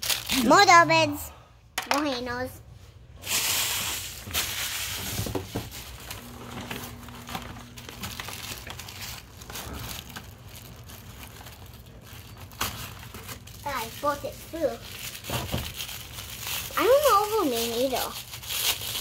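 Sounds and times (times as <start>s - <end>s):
plastic wrappers crinkling: 0.0s - 0.9s, 3.2s - 19.0s.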